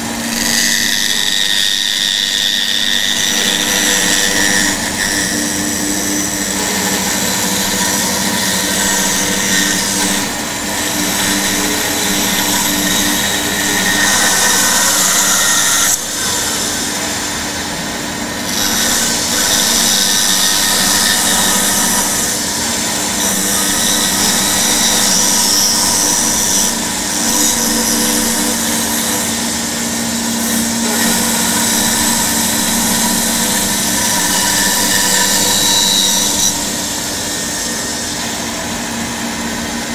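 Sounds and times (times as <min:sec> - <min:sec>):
bandsaw cutting wood: 0:00.0 - 0:38.7.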